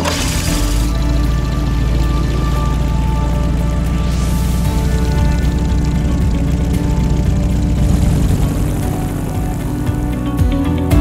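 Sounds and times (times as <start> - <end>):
wind machine running: 0.0 - 10.4
background music: 0.0 - 11.0.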